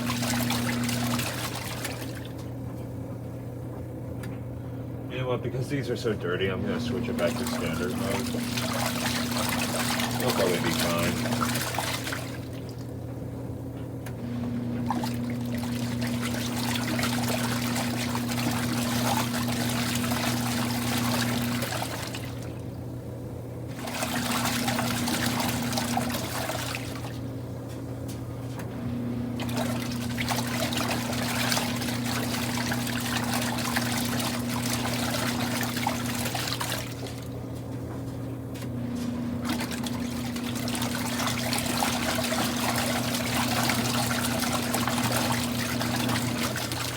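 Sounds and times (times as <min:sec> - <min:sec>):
steady low hum: 0:00.0 - 0:46.9
washing machine agitator sloshing water: 0:00.0 - 0:46.9.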